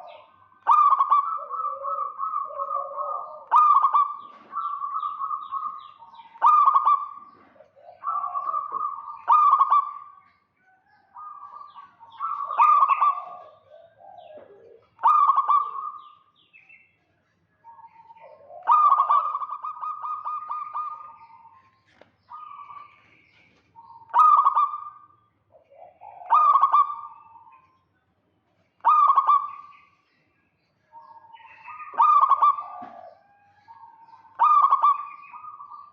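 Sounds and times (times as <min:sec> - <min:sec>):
dove cooing: 0:00.0 - 0:10.2, 0:10.8 - 0:16.2, 0:17.6 - 0:27.7, 0:28.8 - 0:30.0, 0:30.9 - 0:35.9.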